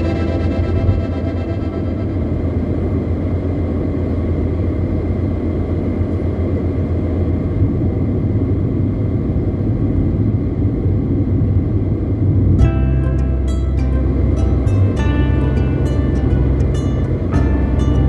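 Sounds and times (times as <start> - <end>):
car engine and road noise: 0.0 - 8.6, 9.2 - 18.0.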